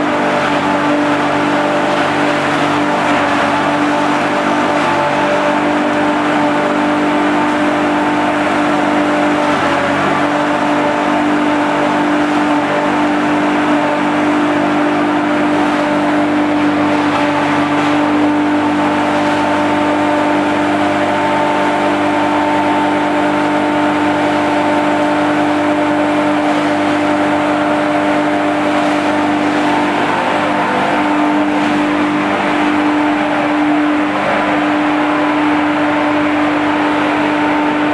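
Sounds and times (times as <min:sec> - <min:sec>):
hammer mill grinding: 0:00.0 - 0:37.9.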